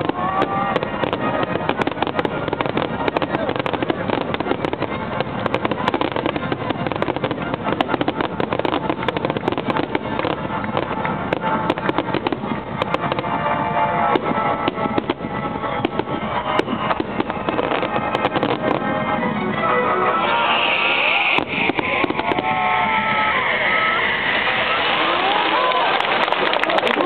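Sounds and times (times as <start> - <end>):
music: 0.0 - 24.8
fireworks crackling and popping: 0.0 - 27.0.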